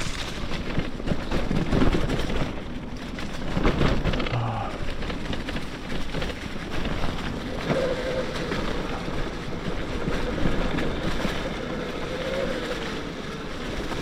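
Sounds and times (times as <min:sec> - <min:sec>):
bike frame rattling over rough ground: 0:00.0 - 0:14.0.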